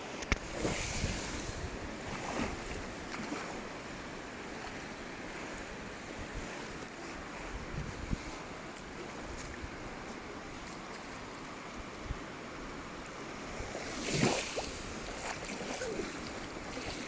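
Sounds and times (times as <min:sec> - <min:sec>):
ocean waves breaking on a beach: 0:00.0 - 0:17.0.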